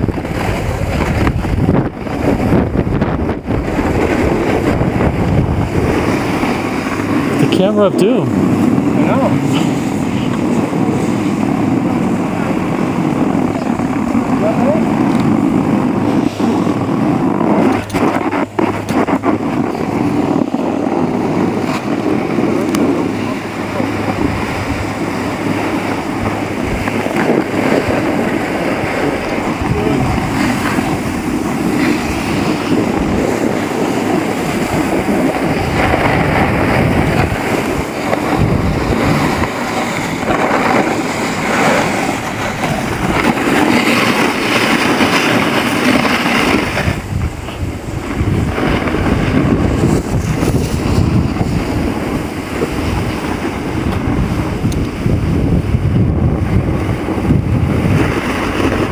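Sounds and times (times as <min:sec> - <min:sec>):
snowboard sliding over snow: 0:00.0 - 0:58.9
wind buffeting microphone: 0:00.0 - 0:58.9.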